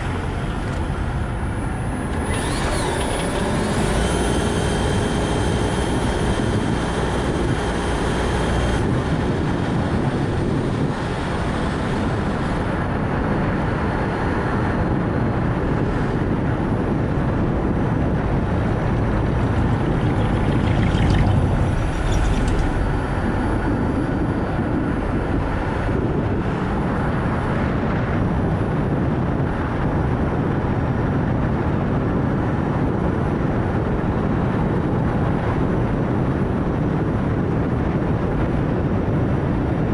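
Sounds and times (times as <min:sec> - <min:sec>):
car road and tyre noise: 0:00.0 - 0:39.9
wind noise: 0:00.0 - 0:39.9.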